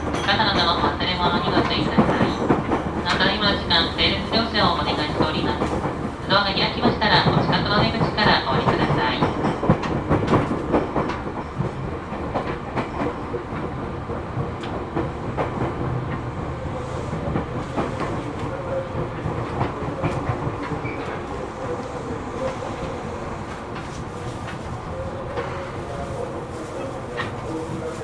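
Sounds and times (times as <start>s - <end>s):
electric train rolling slowly: 0.0s - 28.0s.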